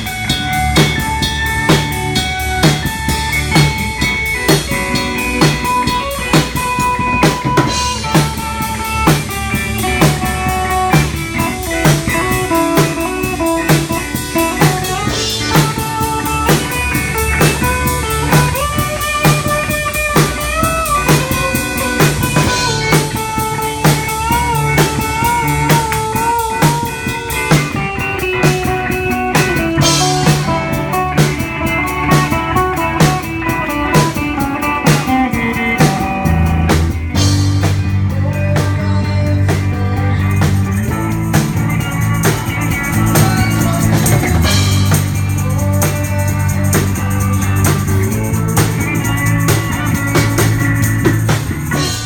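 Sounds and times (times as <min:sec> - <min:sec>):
drum kit beat: 0:00.0 - 0:52.0
electric guitar lead line: 0:00.0 - 0:52.0
rock band playing: 0:00.0 - 0:52.0.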